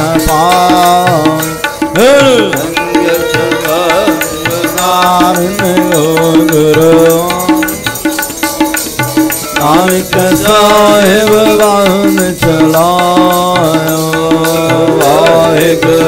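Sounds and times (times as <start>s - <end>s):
person singing: 0.0s - 8.3s, 9.4s - 16.0s
harmoniums playing: 0.0s - 16.0s
tabla beat: 0.0s - 16.0s.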